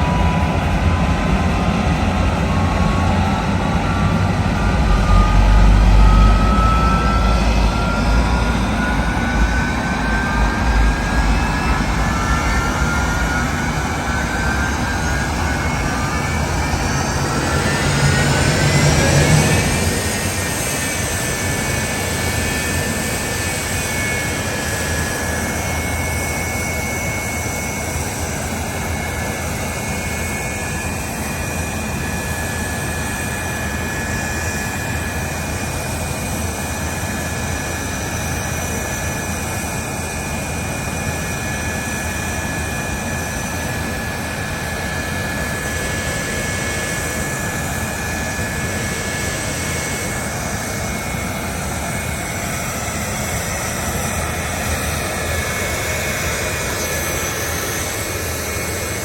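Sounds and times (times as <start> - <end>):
jet engine turbine whine: 0.0 - 59.0.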